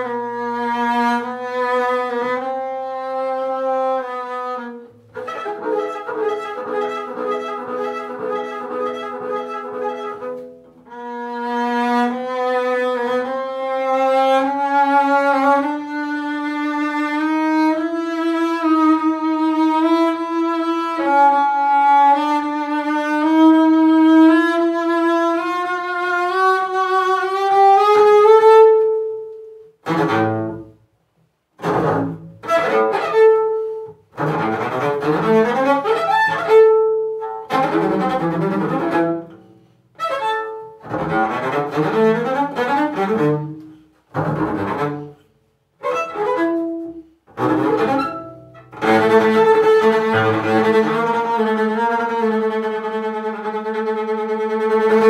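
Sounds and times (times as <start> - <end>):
bowed double bass: 0.0 - 55.0.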